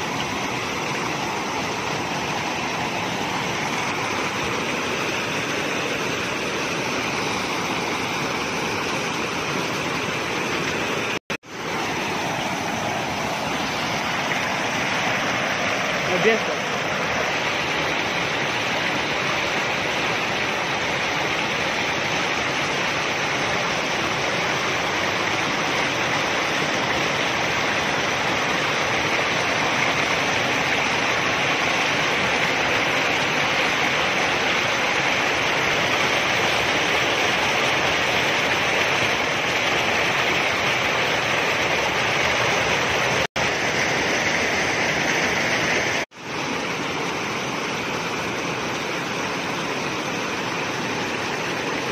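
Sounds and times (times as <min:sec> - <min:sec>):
mountain stream rushing: 0:00.0 - 0:51.9.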